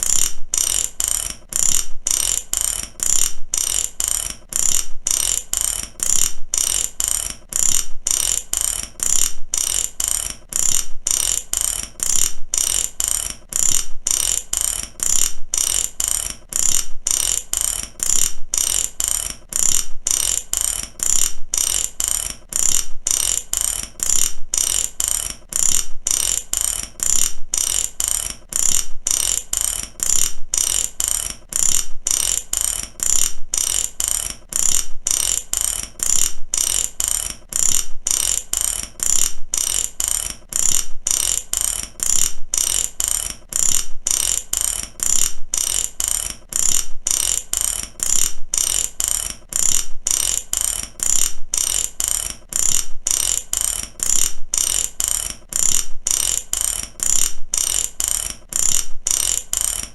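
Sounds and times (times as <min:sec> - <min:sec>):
mechanical ratchet clicking: 0:00.0 - 0:59.9.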